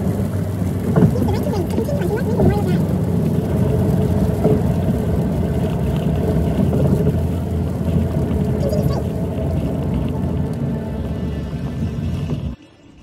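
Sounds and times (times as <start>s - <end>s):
loud low rumbling: 0.0s - 12.6s.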